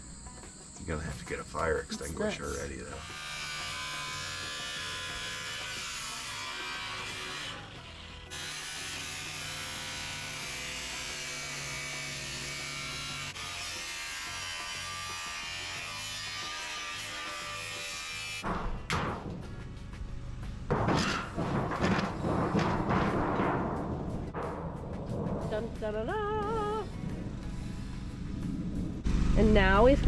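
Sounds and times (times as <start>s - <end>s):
angle grinder cutting metal: 1.9s - 23.4s, 25.4s - 30.0s.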